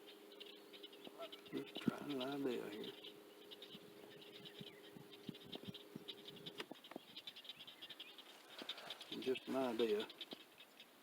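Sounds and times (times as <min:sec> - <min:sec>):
frogs chirping: 0:00.0 - 0:11.0
low steady hum: 0:00.0 - 0:11.0.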